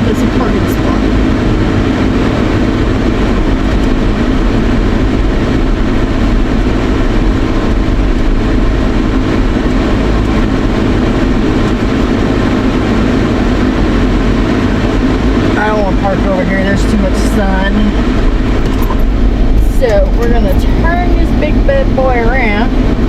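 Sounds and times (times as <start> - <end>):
road noise: 0.0 - 23.0
vehicle engine: 0.0 - 23.0.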